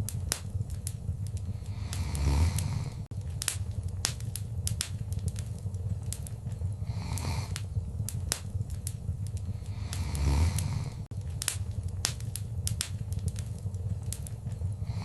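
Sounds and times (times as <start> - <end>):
soft hissing: 0.0 - 15.0
wood fire crackling: 0.0 - 15.0.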